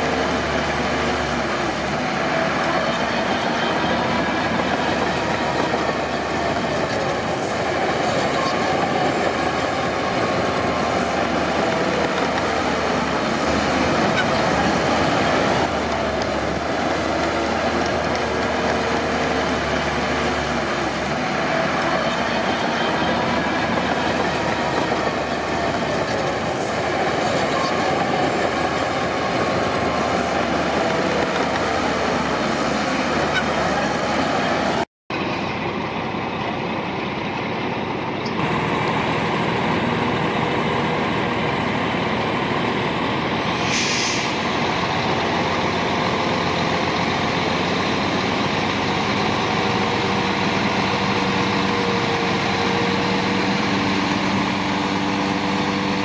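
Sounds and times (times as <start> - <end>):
steel tracks squealing and clanking: 0.0 - 35.4, 42.7 - 56.0
diesel engine under load: 0.0 - 56.0.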